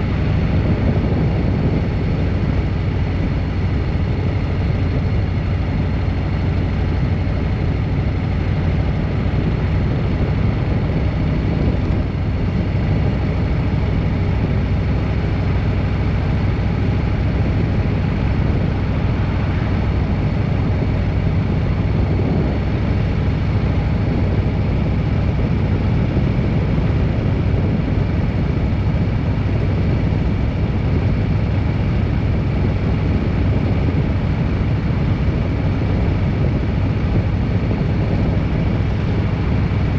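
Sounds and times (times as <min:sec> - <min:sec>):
faint steady whines: 0:00.0 - 0:39.9
vehicle engine and road noise: 0:00.0 - 0:39.9.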